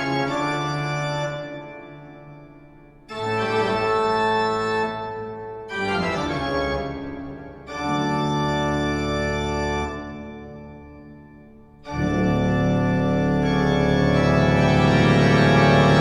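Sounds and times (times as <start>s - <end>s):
organ chords: 0.0s - 16.0s.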